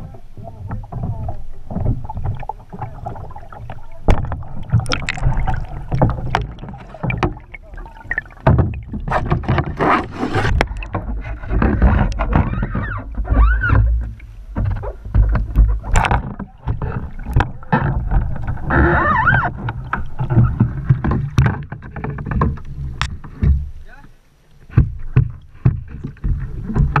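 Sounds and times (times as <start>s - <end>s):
water rumbling against housing: 0.0s - 27.0s
water sloshing and splashing: 0.0s - 27.0s.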